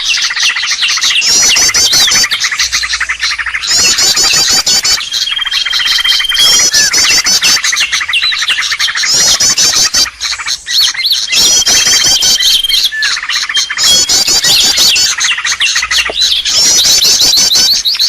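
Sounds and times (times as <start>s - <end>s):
sharp bird chirps: 0.0s - 18.0s
songbird high trill: 0.0s - 18.0s
steady bird whistle: 0.0s - 18.0s.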